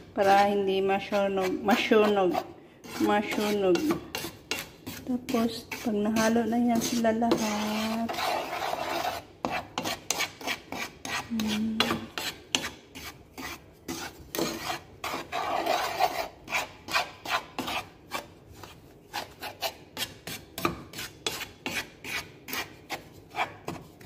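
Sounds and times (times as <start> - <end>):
wooden spatula scraping metal pan: 0.0 - 24.0.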